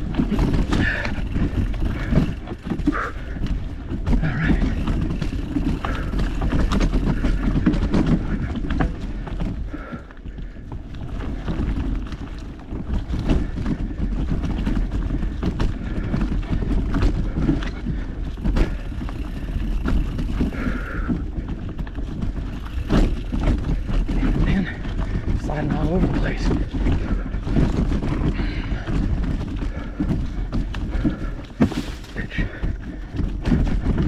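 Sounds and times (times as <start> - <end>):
frame and chain rattling: 0.0 - 34.0
mountain bike rumbling over trail: 0.0 - 34.0.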